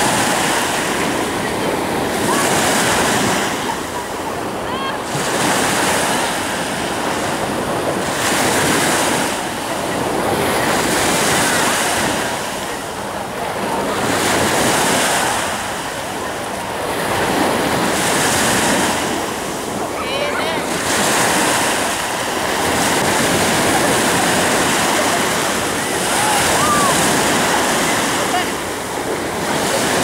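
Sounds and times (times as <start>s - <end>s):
waves breaking: 0.0s - 30.0s.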